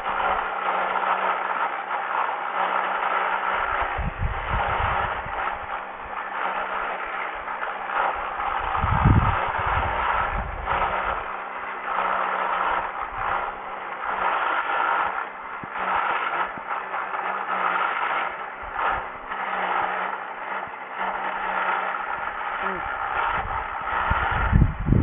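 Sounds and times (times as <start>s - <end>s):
blade scraping through soil: 0.0s - 25.0s
motor hum: 0.0s - 25.0s.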